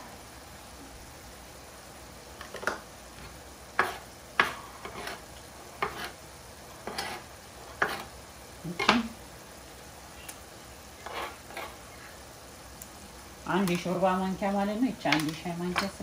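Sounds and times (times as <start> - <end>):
vegetables sizzling in a frying pan: 0.0 - 16.0.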